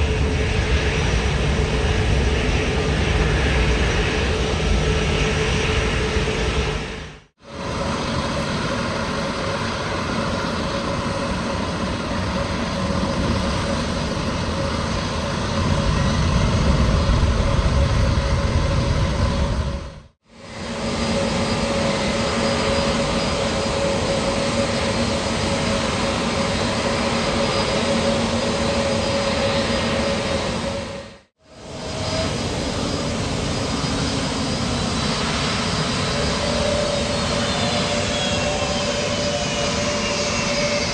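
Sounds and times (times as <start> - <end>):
jet engines roaring with whine: 0.0 - 40.9.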